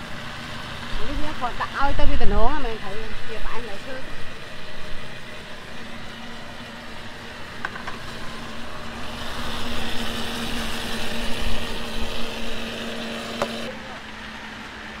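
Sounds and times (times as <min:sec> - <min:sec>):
motor hum: 0:00.0 - 0:15.0
street background noise: 0:00.0 - 0:15.0.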